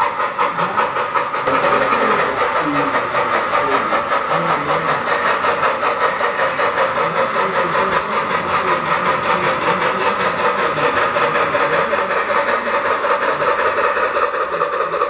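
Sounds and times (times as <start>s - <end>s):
model steam locomotive chuffing: 0.0s - 15.0s
model train running on rails: 0.0s - 15.0s.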